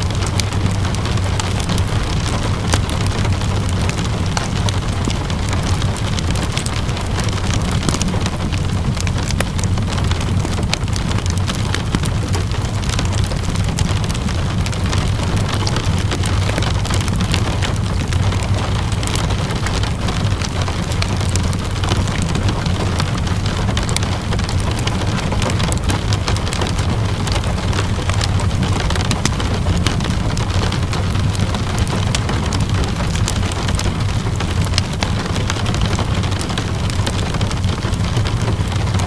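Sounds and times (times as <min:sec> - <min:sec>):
low steady rumble: 0:00.0 - 0:39.0
steady rain falling: 0:00.0 - 0:39.0
wood fire crackling: 0:00.0 - 0:39.0.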